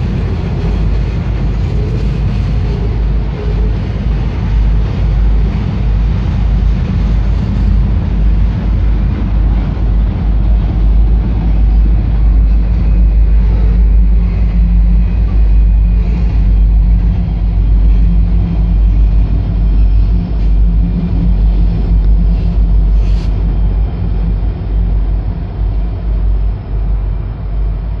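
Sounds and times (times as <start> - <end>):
diesel locomotives running past: 0.0 - 28.0.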